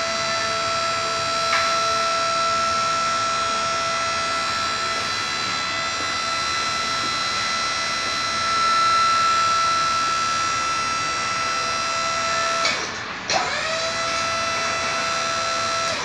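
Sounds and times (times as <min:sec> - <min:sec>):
drill motor whining: 0:00.0 - 0:16.0.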